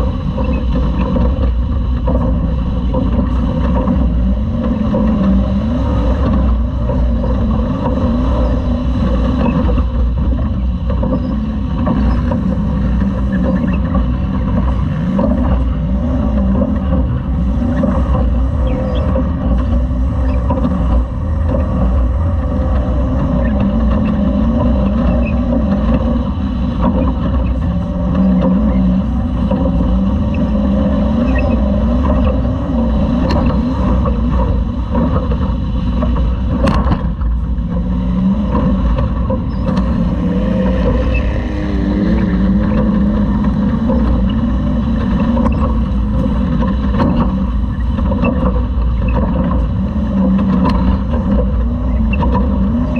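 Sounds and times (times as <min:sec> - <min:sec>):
race truck engine rumble: 0:00.0 - 0:52.9.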